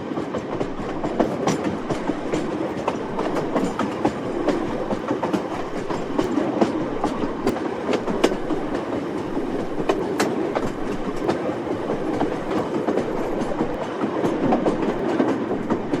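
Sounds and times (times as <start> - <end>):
train rolling rumble: 0.0 - 16.0
wheels clicking and knocking: 0.0 - 16.0.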